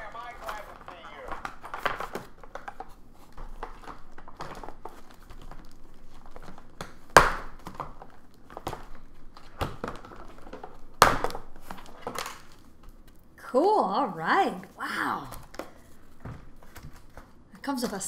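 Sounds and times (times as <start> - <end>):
packaging rustling and scraping: 0.0 - 13.2, 15.4 - 18.0.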